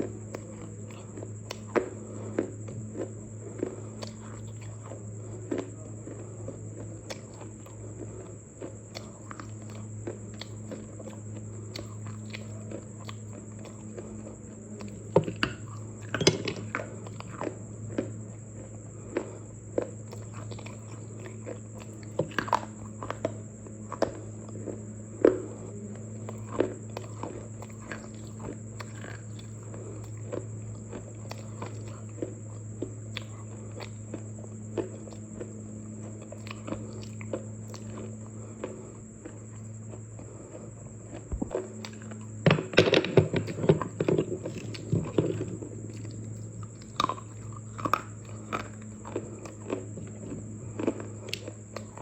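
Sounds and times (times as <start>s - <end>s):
crunchy food being chewed: 0.0s - 52.0s
low electrical hum: 0.0s - 52.0s.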